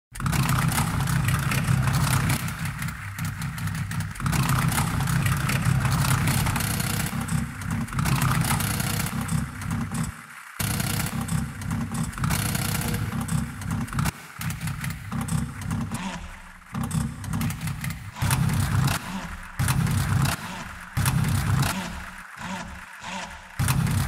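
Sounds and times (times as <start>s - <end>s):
mechanical drone with hiss: 0.2s - 24.0s.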